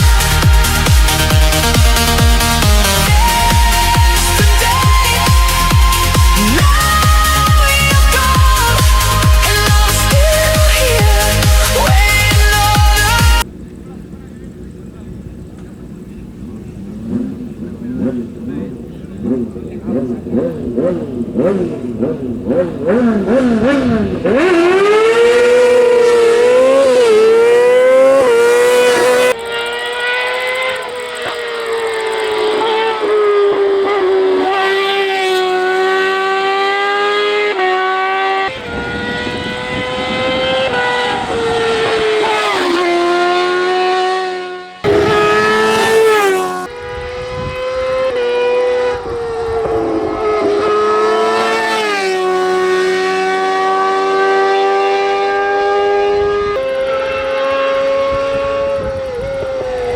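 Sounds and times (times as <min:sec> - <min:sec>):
racing engine at high revs: 0:00.0 - 0:59.9.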